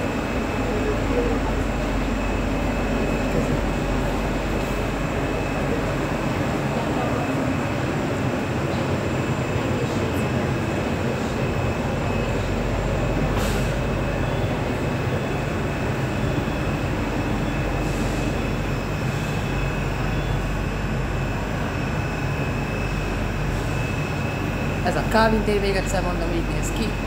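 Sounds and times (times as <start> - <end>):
high-pitched whine: 0.0 - 27.0
train equipment drone: 0.0 - 27.0.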